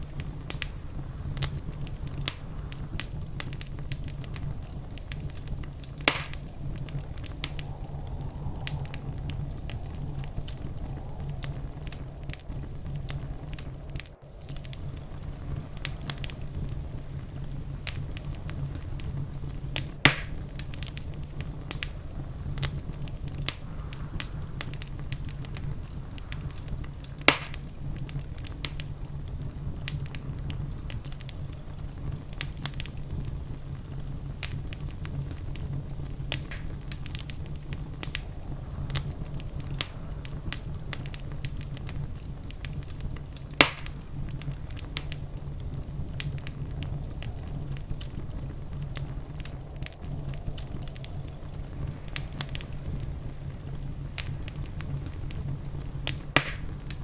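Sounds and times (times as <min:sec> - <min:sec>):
low steady rumble: 0:00.0 - 0:57.0
wood fire crackling: 0:00.0 - 0:57.0.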